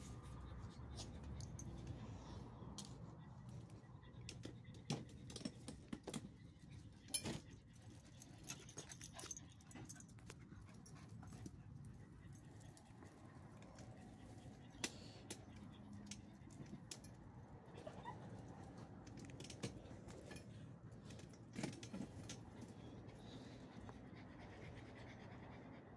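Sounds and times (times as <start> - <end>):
dogs sniffing: 0.0 - 25.9.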